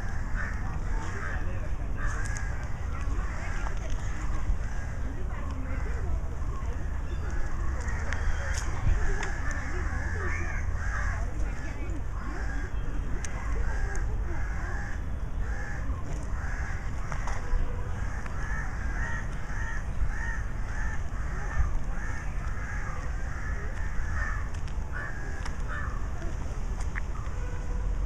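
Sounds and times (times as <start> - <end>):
crows cawing: 0.0 - 5.1, 6.8 - 26.1.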